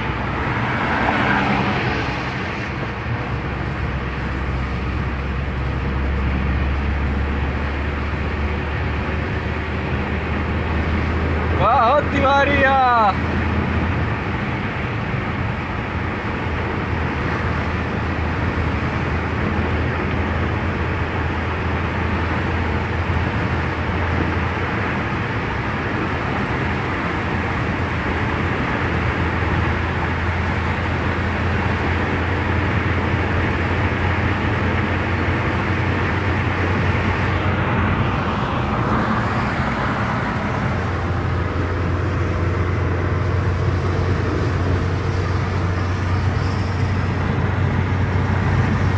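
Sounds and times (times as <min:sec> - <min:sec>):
car road noise: 0:00.0 - 0:48.9.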